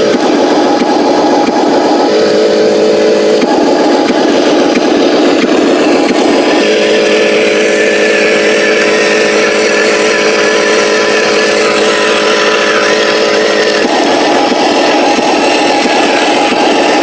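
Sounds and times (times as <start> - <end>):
toy truck motor humming: 0.0 - 17.0.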